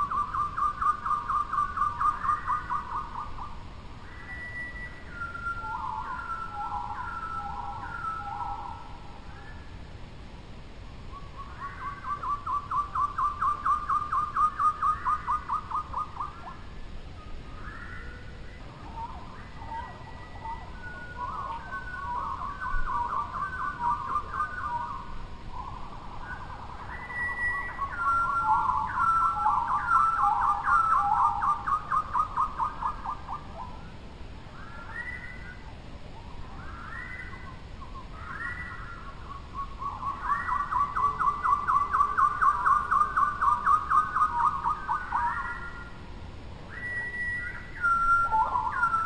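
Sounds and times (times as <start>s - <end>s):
bird whistling repeated notes: 0.0s - 9.7s, 11.1s - 16.6s, 17.2s - 33.7s, 36.6s - 46.0s, 46.7s - 49.0s.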